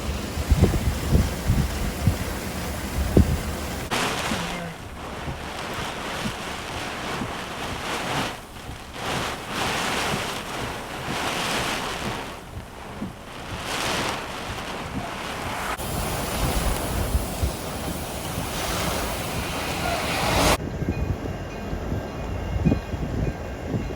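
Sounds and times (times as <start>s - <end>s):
gusty wind buffeting microphone: 0.0s - 23.9s
steady low rumble: 0.0s - 23.9s.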